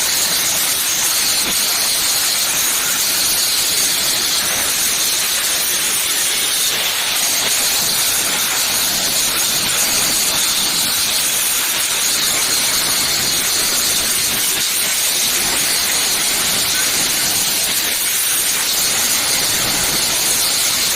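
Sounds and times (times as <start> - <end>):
angle grinder grinding metal: 0.0 - 20.9.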